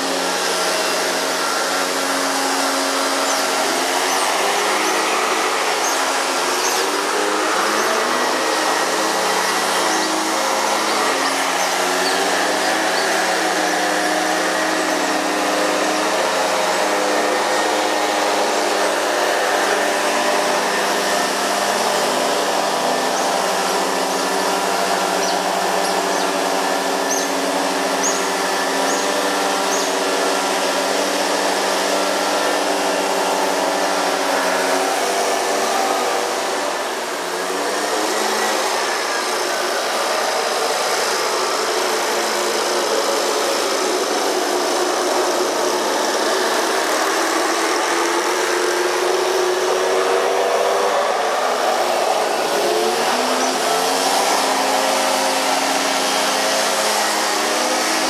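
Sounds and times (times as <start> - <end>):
motorized machine humming: 0.0 - 58.0.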